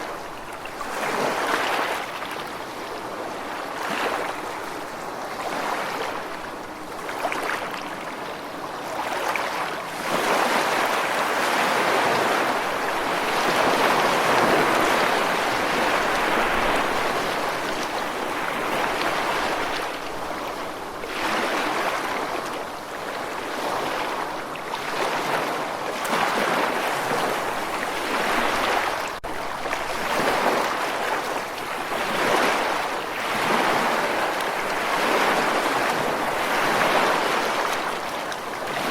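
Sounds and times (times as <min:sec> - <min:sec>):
ocean waves on shore: 0:00.0 - 0:38.9.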